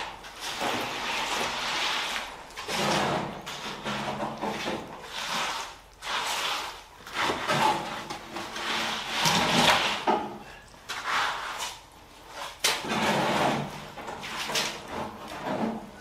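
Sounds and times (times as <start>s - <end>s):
straightedge scraping wet concrete: 0.0s - 10.2s, 10.9s - 16.0s.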